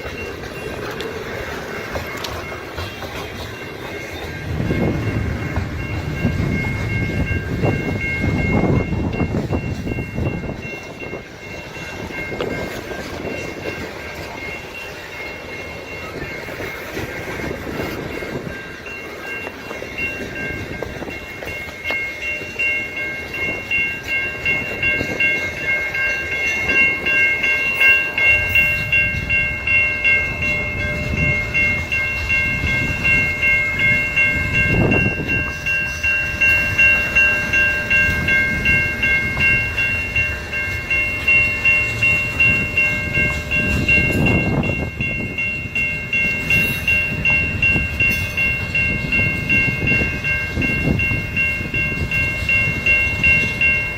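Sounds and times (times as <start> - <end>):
train rumble: 0.0 - 53.9.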